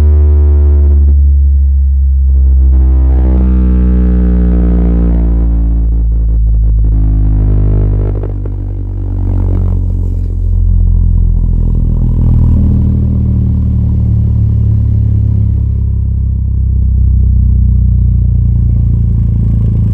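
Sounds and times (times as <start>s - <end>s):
subwoofer low bass tone: 0.0s - 19.9s.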